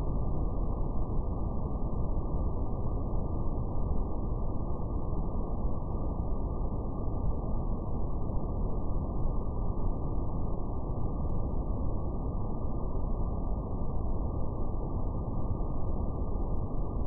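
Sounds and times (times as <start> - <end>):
brown noise rumbling hiss: 0.0 - 17.0.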